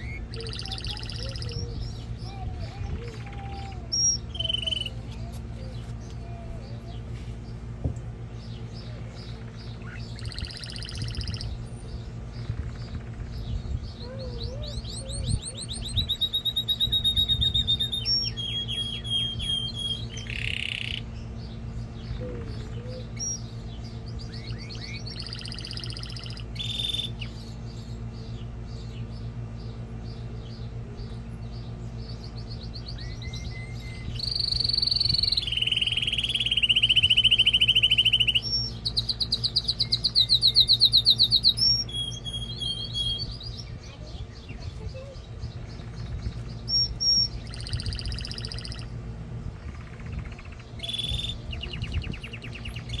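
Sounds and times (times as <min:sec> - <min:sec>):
canary singing trills: 0:00.0 - 0:53.0
steady low hum: 0:00.0 - 0:53.0.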